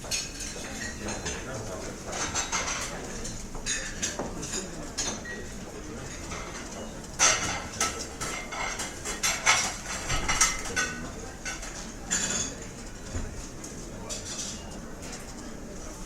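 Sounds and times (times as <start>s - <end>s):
cutlery and dishes clinking: 0.0s - 13.3s, 14.0s - 15.4s
murmur of diners: 0.0s - 16.0s.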